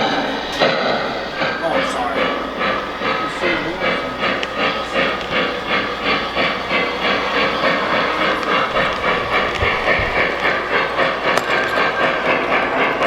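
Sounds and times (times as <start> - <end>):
synthesized steam locomotive chuffing: 0.0 - 13.0.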